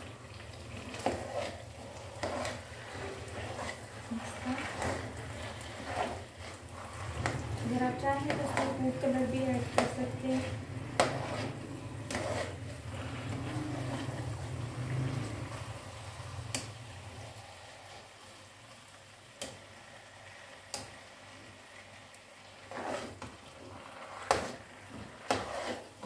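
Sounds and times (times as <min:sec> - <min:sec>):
spoon stirring thick mixture: 0:00.0 - 0:17.9, 0:20.7 - 0:26.0.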